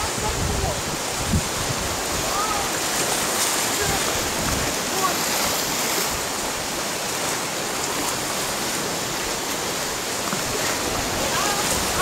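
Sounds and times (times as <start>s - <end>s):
sea waves washing on rocks: 0.0s - 12.0s.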